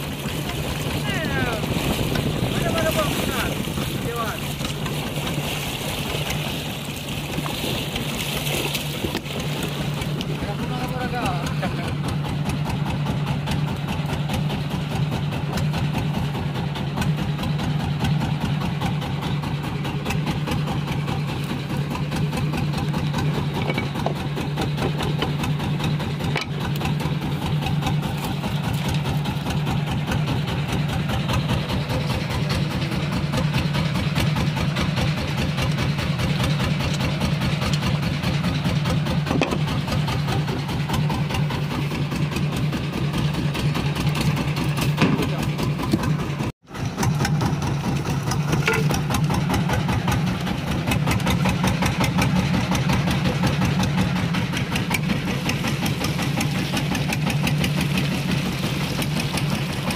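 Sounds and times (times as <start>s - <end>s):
boat engine chugging: 0.0s - 59.9s.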